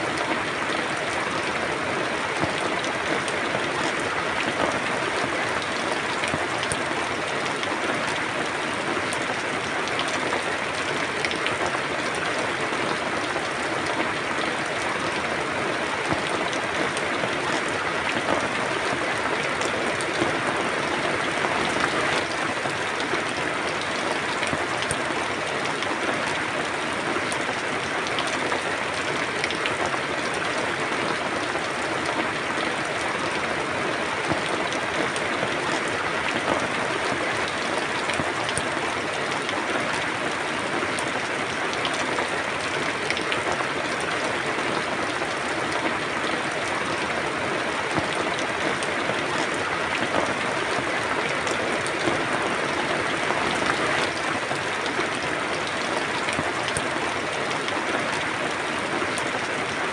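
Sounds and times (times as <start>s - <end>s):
steady rain: 0.0s - 59.9s
raindrops ticking on surface: 0.1s - 59.9s.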